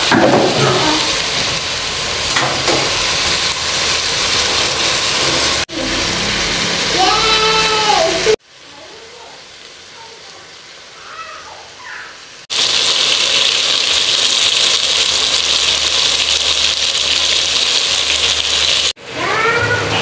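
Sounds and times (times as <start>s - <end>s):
gravy sizzling in a pot: 0.0s - 19.3s.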